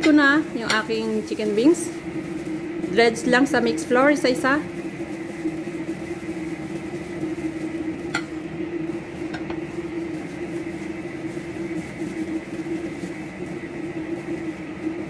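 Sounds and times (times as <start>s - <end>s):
steady low hum: 0.0s - 15.0s
chicken being dredged in flour: 0.2s - 15.0s.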